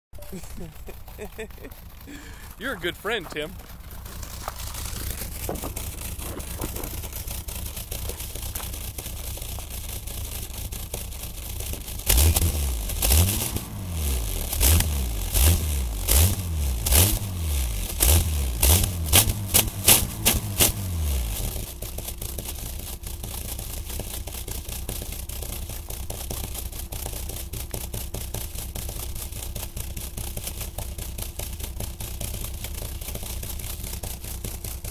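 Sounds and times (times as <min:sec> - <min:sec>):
noisemaker on exhaust blasting: 0:00.1 - 0:34.9
pickup truck engine revving: 0:00.2 - 0:34.6.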